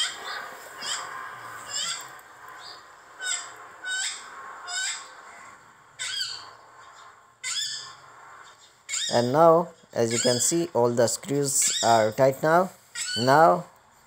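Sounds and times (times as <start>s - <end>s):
bird chirping: 0.0s - 13.7s.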